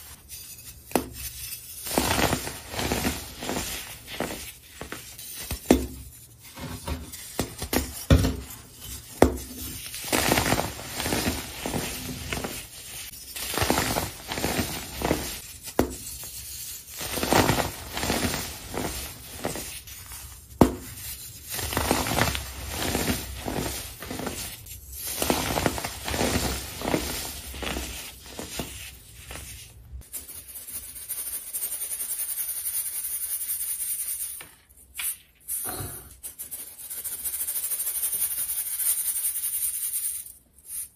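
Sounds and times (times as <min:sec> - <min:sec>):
powder sifted through sieve: 0:00.0 - 0:34.4, 0:35.0 - 0:40.9.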